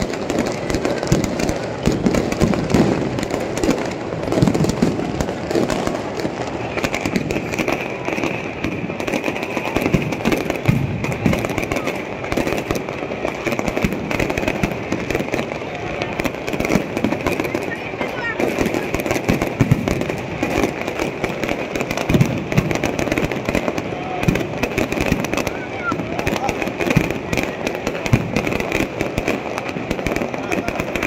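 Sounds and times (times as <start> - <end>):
firecrackers crackling and popping: 0.0 - 31.0.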